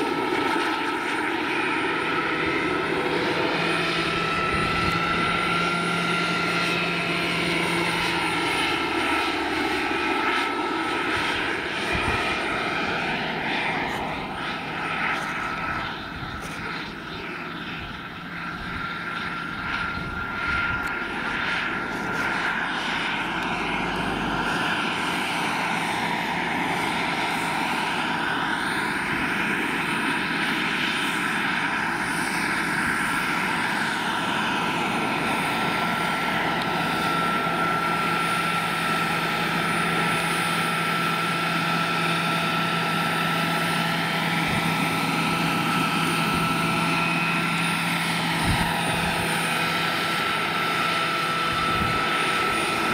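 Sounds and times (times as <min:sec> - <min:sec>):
model helicopter turbine whine: 0:00.0 - 0:52.9.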